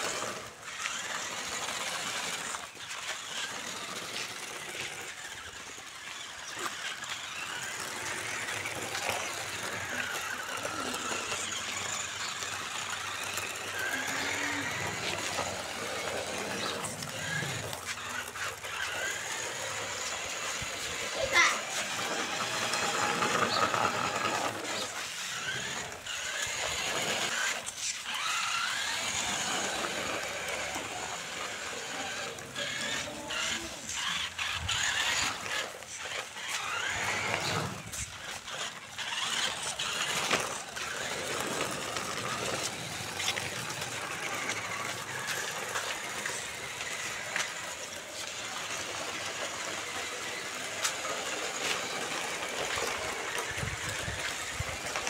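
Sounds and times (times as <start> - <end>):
electric motor and gearbox whining: 0.0 - 55.0
wheels clicking on concrete: 0.0 - 55.0.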